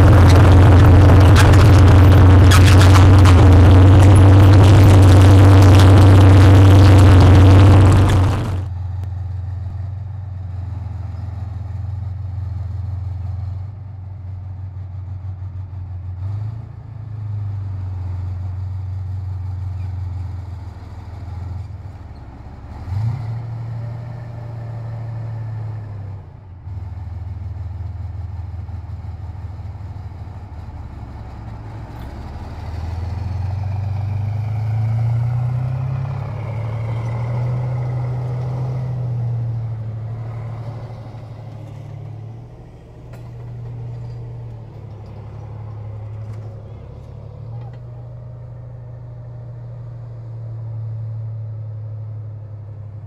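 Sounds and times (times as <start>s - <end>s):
tank engine revving: 0.0s - 53.0s.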